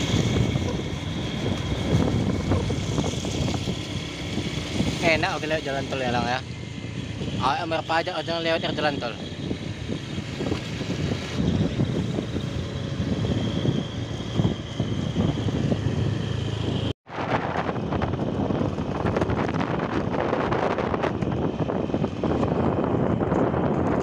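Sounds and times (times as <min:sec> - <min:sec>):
vehicle engine and road noise: 0:00.0 - 0:24.0
wind buffeting microphone: 0:00.0 - 0:24.0.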